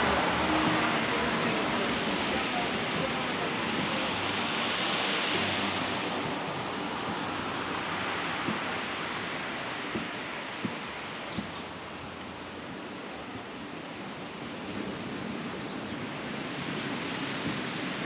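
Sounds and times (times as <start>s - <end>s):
sea surf washing ashore: 0.0s - 18.0s.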